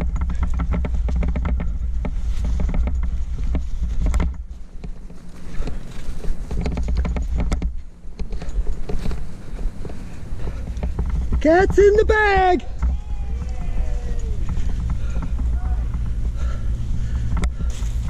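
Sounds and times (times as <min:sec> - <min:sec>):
low wind rumble: 0:00.0 - 0:18.0.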